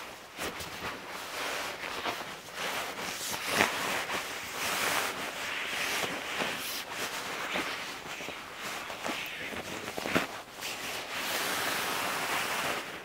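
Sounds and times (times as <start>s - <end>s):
fabric and mat rustling: 0.0s - 13.0s.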